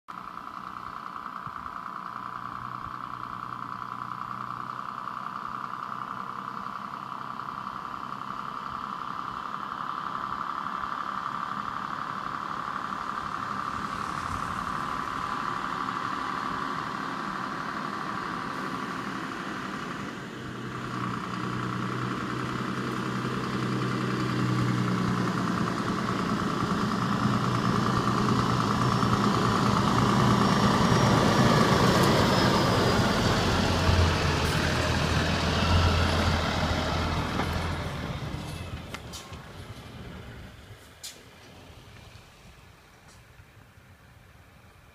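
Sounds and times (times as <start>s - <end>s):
truck engine running: 0.1s - 44.9s.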